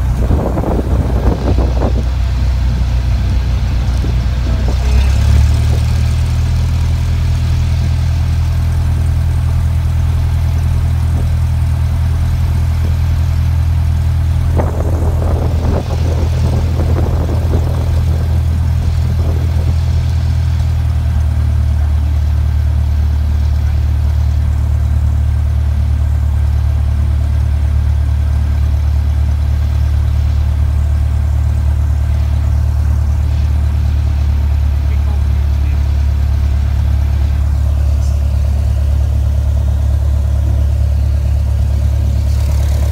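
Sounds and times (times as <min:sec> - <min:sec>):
airplane engine droning: 0:00.0 - 0:42.9.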